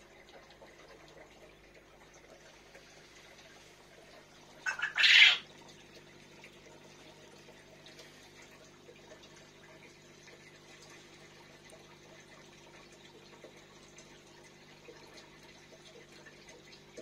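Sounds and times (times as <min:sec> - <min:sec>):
aquarium filter humming: 0:00.0 - 0:17.0
water trickling: 0:00.0 - 0:17.0.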